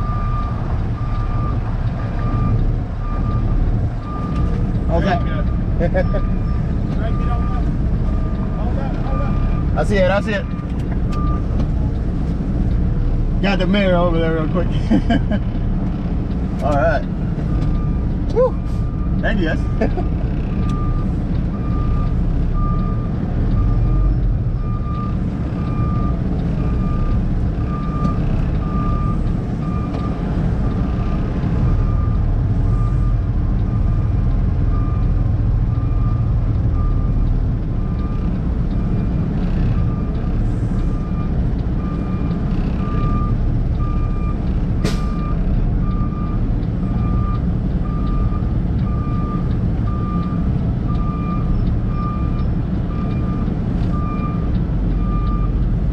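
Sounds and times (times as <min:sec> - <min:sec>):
diesel engine rumbling: 0:00.0 - 0:55.9.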